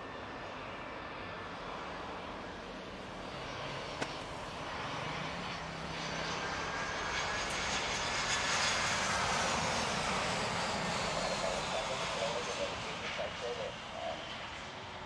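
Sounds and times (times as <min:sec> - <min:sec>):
jet engines roaring and whining: 0:00.0 - 0:15.0.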